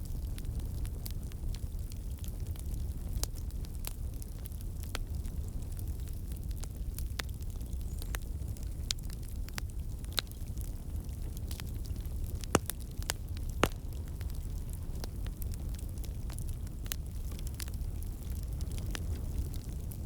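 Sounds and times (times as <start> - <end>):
fire pops: 0.0 - 20.0
wood fire crackling: 0.0 - 20.0.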